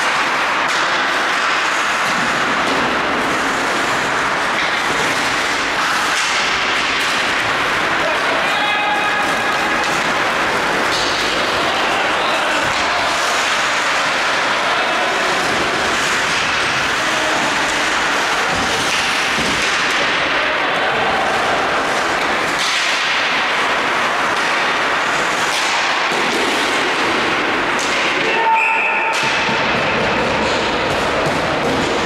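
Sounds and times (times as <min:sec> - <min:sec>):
puck and sticks knocking: 0:00.0 - 0:28.4, 0:29.1 - 0:32.0.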